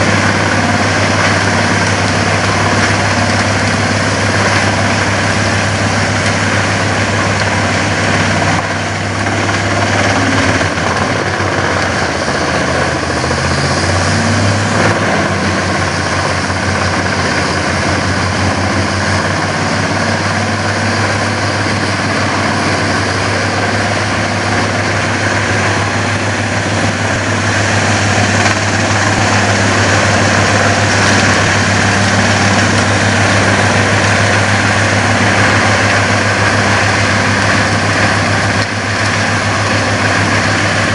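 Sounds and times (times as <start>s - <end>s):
woodchipper engine hum: 0.0s - 40.9s.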